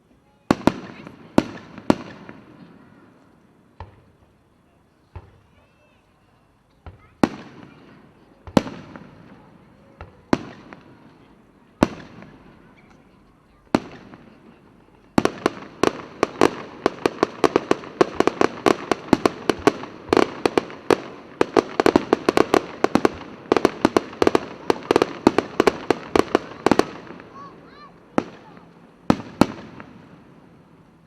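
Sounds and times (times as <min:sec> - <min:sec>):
rapid crackling firework barrage: 0:00.5 - 0:03.0, 0:06.8 - 0:11.2, 0:11.8 - 0:12.7, 0:13.6 - 0:31.0.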